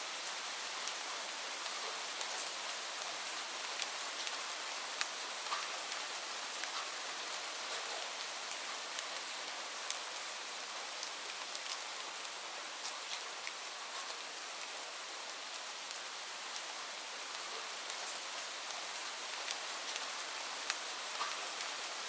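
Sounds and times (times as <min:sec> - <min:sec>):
rain falling on leaves: 0:00.0 - 0:22.0.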